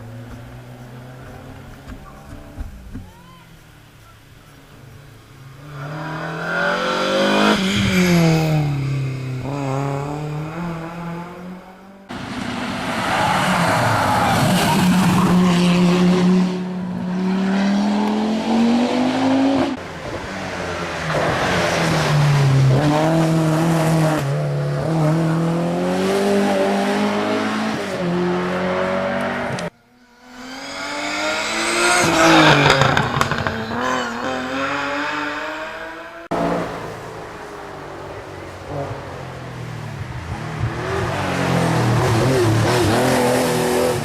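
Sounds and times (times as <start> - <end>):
rally car engines revving: 3.8 - 44.0.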